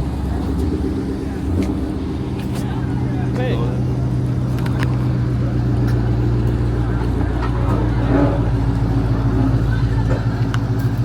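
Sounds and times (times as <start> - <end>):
car engine idling: 0.0 - 11.0
faint voices: 0.0 - 11.0.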